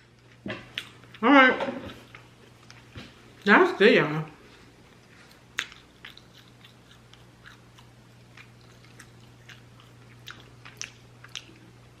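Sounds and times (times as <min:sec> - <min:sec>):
faint low hum: 0:00.0 - 0:12.0
chewing and mouth clicks: 0:00.1 - 0:01.2, 0:01.9 - 0:03.5, 0:04.3 - 0:12.0.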